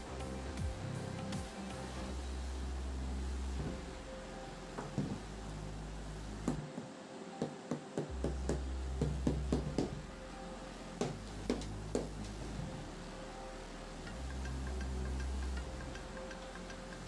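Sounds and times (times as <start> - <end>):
steady low hum: 0.0 - 7.4, 8.0 - 17.0.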